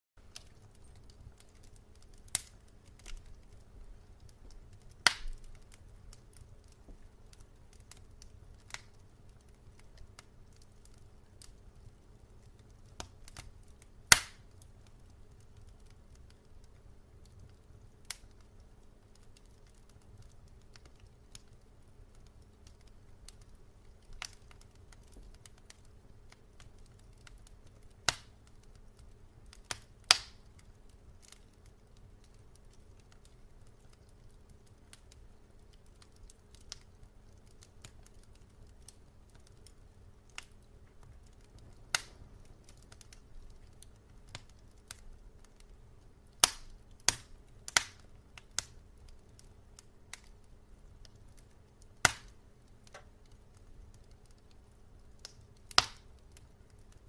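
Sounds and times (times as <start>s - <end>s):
faint low hum: 0.2s - 57.0s
wood fire crackling: 0.2s - 57.0s.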